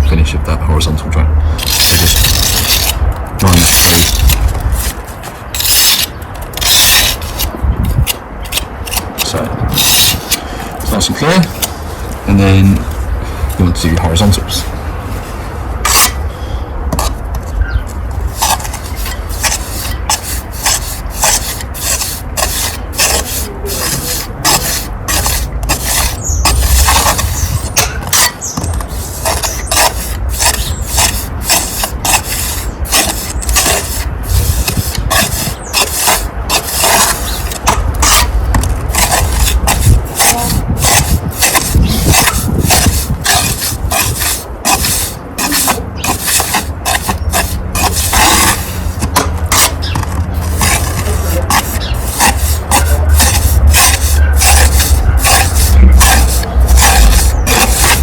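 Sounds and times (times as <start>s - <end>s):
trowel scraping mortar: 1.6s - 13.0s, 13.6s - 16.2s, 16.9s - 17.6s, 18.2s - 58.0s.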